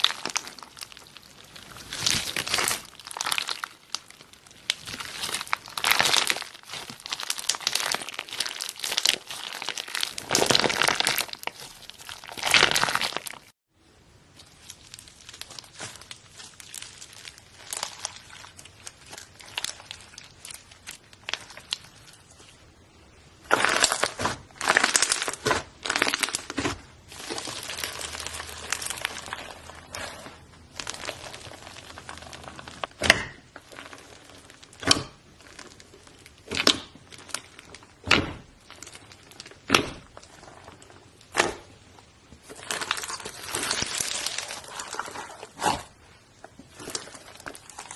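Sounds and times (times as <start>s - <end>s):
slime crinkling and crackling: 0.0s - 47.9s.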